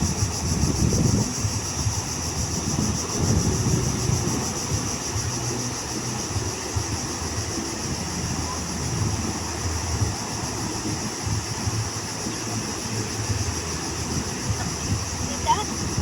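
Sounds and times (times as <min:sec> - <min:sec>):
steady high hiss: 0:00.0 - 0:16.0
surf washing on beach: 0:00.0 - 0:16.0
wind buffeting microphone: 0:00.0 - 0:16.0.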